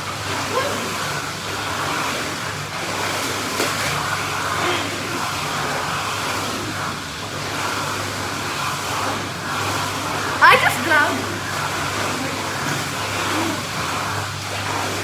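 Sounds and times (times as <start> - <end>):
churning water rushing: 0.0 - 15.0
pump hum: 0.0 - 15.0.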